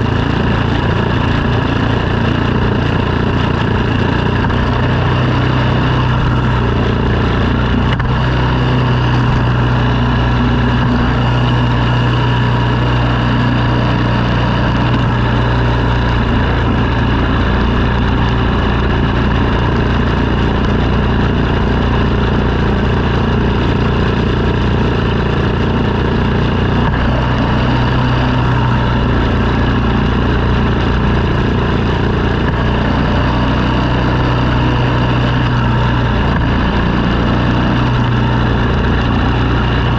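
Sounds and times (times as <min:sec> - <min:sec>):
snow-clearing machine engine humming: 0:00.0 - 0:39.9.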